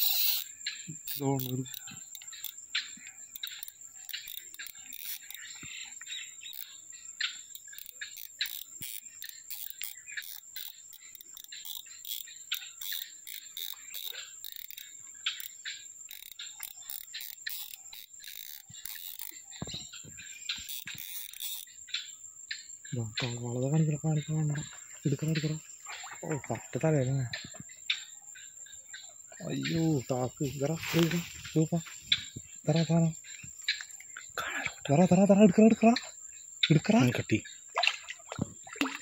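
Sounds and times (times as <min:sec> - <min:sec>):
frogs clicking calls: 0:00.0 - 0:39.0
high-pitched insect tone: 0:00.0 - 0:39.0.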